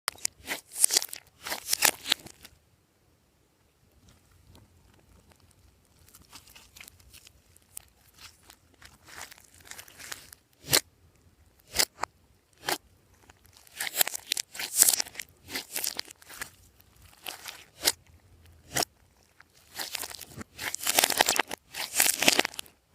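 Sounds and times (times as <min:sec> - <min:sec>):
slime crackling and popping: 0:00.1 - 0:02.5, 0:04.4 - 0:10.9, 0:11.6 - 0:22.8.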